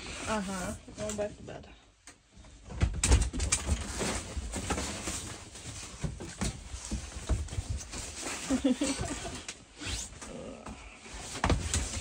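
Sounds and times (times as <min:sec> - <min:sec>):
thumps and knocks of movement: 0:02.1 - 0:12.0.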